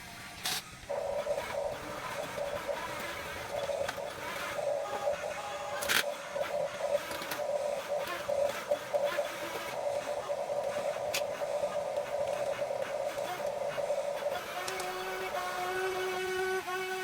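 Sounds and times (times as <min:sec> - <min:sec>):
toy electric motors whirring: 0:00.4 - 0:17.0.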